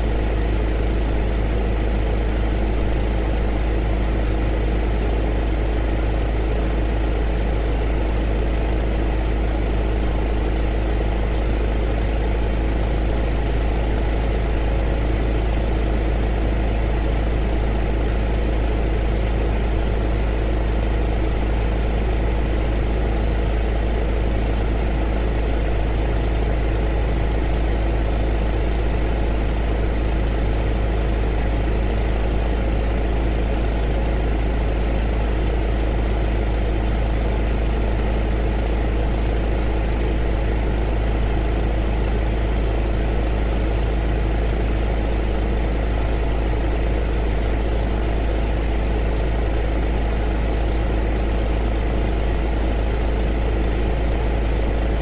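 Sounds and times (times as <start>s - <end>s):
heater rumbling and hissing: 0.0s - 55.0s.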